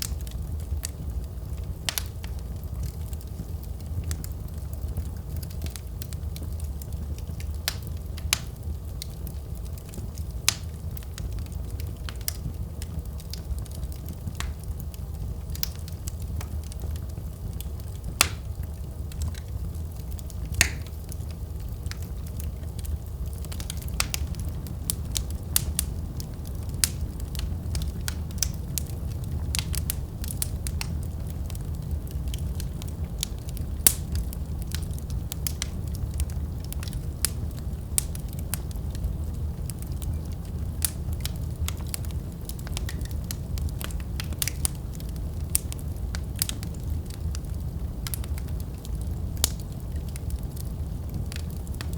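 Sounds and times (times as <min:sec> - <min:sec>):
fire pops and snaps: 0:00.0 - 0:51.9
wood fire crackling: 0:00.0 - 0:51.9.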